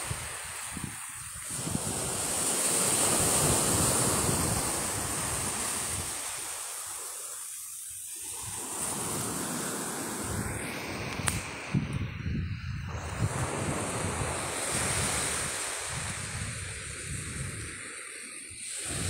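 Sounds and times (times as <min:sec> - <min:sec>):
wind buffeting microphone: 0:00.0 - 0:06.4, 0:08.3 - 0:17.9, 0:18.5 - 0:19.0
surf breaking on beach: 0:00.0 - 0:19.0.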